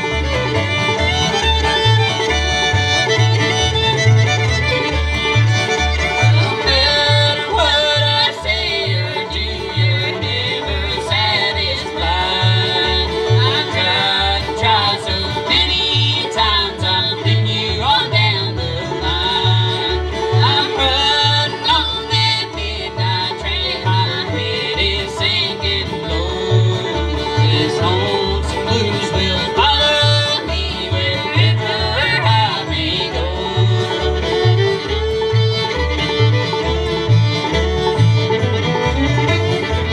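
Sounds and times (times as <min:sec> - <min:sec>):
bluegrass band playing: 0:00.0 - 0:39.9.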